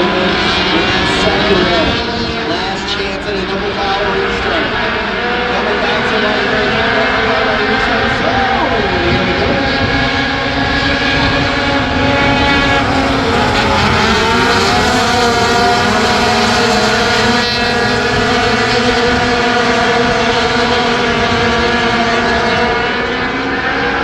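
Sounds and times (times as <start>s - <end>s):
race truck engines passing: 0.0s - 24.0s.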